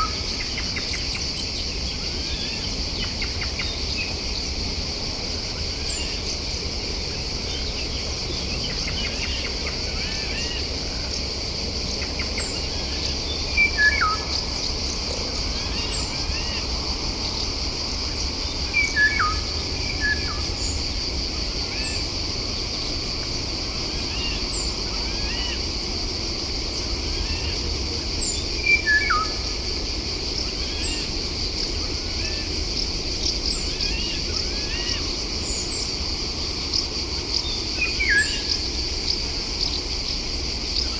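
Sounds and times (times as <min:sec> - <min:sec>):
high insect buzz: 0:00.0 - 0:40.9.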